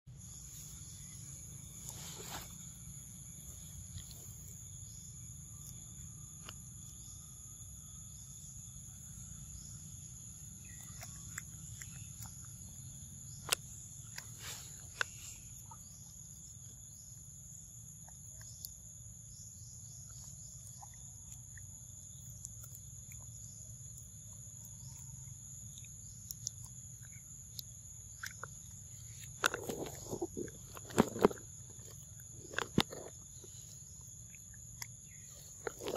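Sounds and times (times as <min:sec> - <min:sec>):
insects droning: 0:00.1 - 0:35.9.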